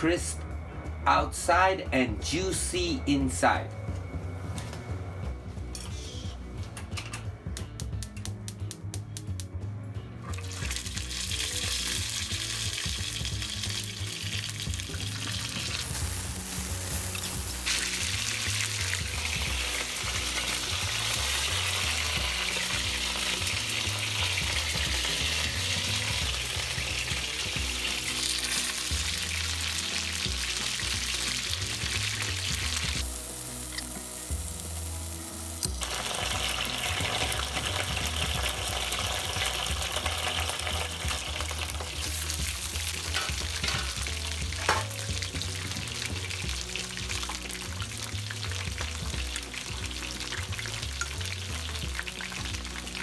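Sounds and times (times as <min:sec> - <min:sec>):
chicken sizzling in oil: 0:10.3 - 0:53.0.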